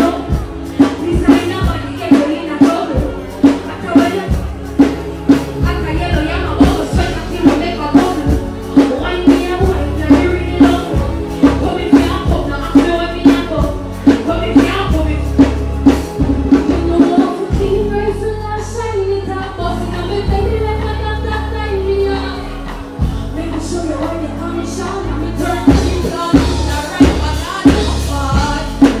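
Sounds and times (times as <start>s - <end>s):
person singing into microphone: 0.0s - 15.5s, 16.4s - 29.0s.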